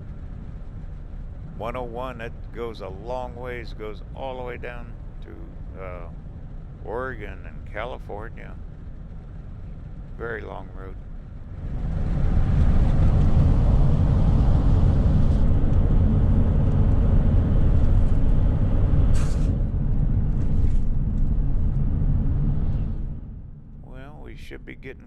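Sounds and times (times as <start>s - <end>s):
vehicle road and engine rumble: 0.0s - 24.4s.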